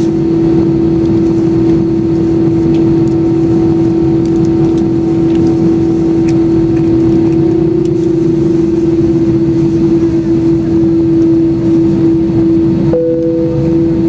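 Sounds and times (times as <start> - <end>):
jet engines heard inside cabin: 0.0 - 14.0.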